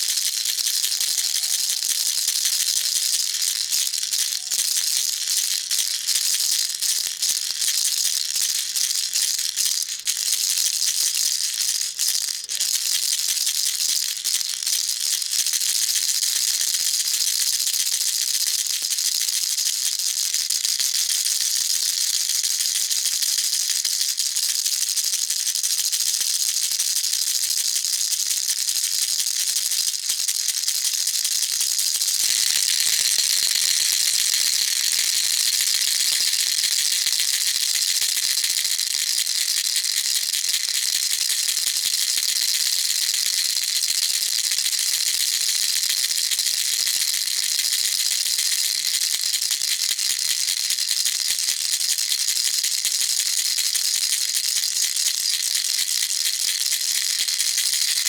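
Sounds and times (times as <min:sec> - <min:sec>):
baby rattle shaking: 0:00.0 - 0:18.1, 0:24.0 - 0:58.0.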